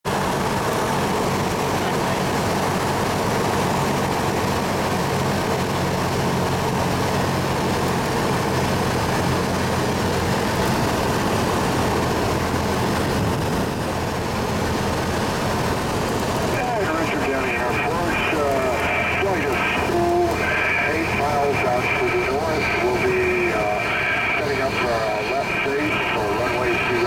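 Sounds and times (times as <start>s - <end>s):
propeller plane engine droning: 0.0s - 27.0s.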